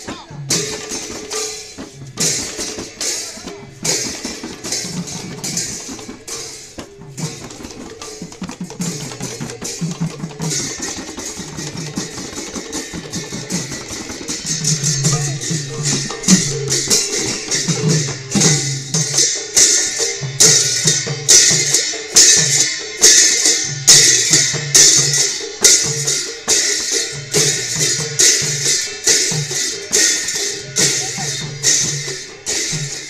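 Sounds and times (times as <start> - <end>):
barrel drums playing: 0.0 - 33.0
hand cymbals clashing: 0.0 - 33.0.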